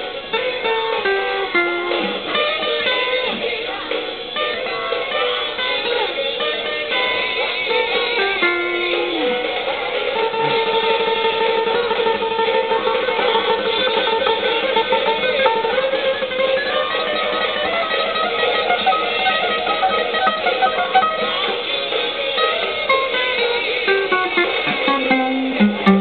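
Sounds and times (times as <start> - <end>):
guitar solo: 0.0 - 26.0.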